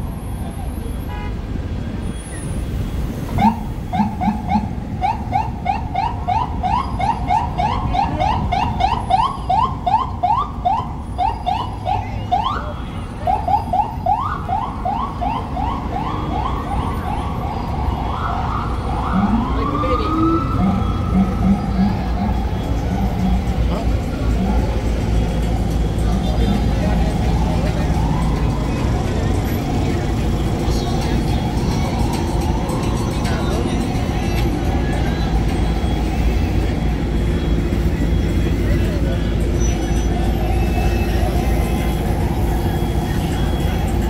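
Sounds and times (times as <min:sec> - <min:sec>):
city street traffic hum: 0:00.0 - 0:44.0
emergency siren yelping and wailing: 0:03.2 - 0:44.0.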